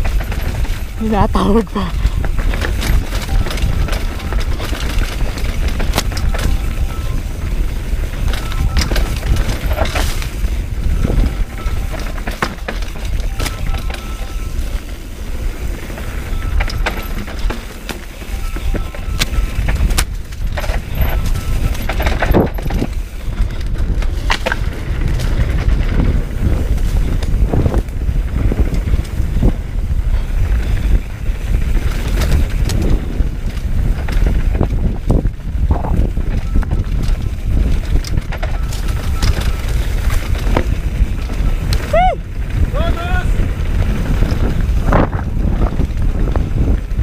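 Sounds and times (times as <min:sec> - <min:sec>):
bike rattling and knocking: 0:00.0 - 0:47.0
tyres rumbling on dirt: 0:00.0 - 0:47.0.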